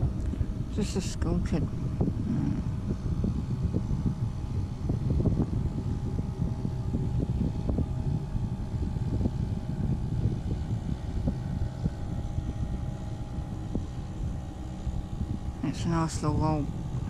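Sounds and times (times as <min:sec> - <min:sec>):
distant outboard motor drone: 0:00.0 - 0:17.0
wind buffeting microphone: 0:00.0 - 0:17.0.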